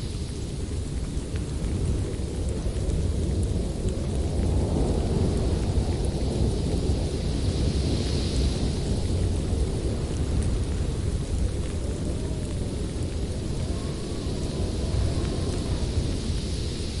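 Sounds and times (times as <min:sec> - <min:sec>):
deep storm rumble: 0:00.0 - 0:17.0
steady storm hiss: 0:00.0 - 0:17.0.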